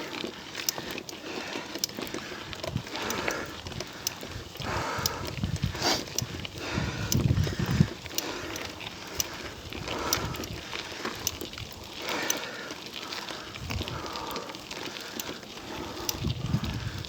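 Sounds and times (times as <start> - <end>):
heavy breathing: 0.0 - 11.3, 12.0 - 17.0
bicycle tyres crunching gravel: 0.0 - 17.0.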